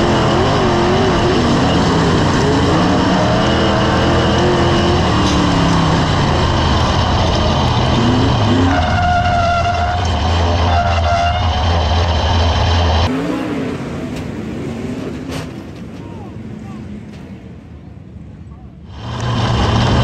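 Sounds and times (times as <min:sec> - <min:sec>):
distant race car engines: 0:00.0 - 0:20.0
race car engine at full throttle: 0:00.0 - 0:20.0.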